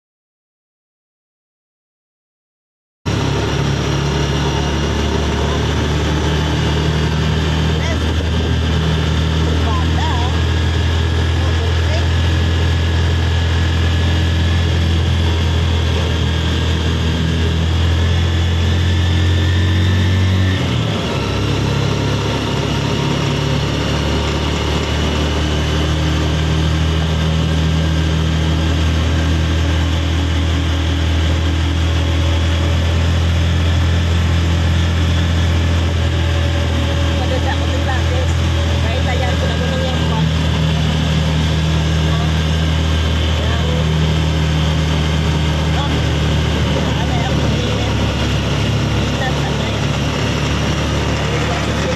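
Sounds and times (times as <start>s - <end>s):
vehicle engine humming under load: 3.1s - 51.9s.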